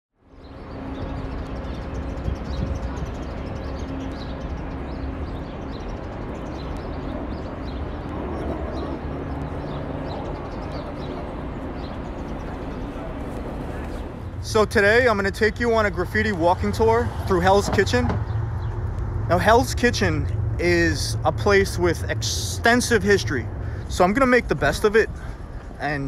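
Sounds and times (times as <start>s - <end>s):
low rumble of traffic: 0.1s - 26.0s
small birds chirping: 0.2s - 26.0s.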